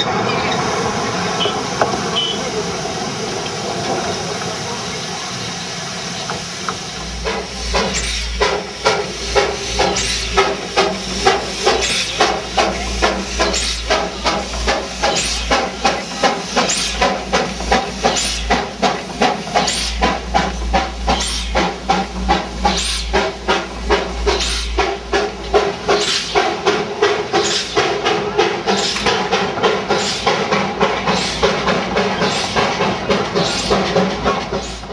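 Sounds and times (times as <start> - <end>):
steam locomotive chuffing: 0.0 - 34.9
steam hissing: 0.1 - 34.9.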